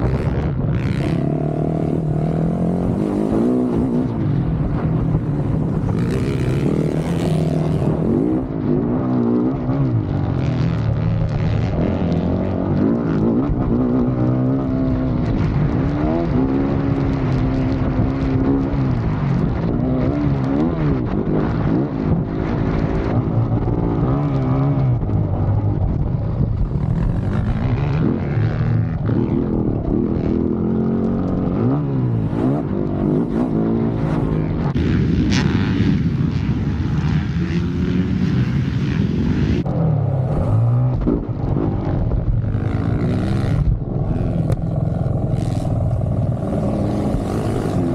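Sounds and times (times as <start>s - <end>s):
dirt bike engine revving: 0.0s - 24.9s, 26.7s - 47.9s.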